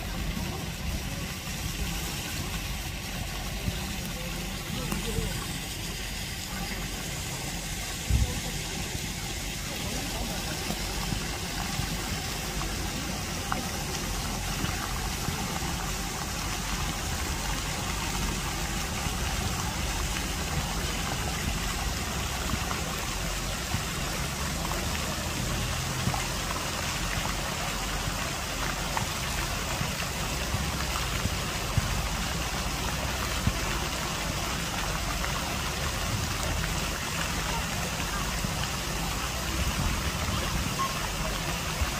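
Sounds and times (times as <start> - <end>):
fountain jets splashing into water: 0.0 - 41.9.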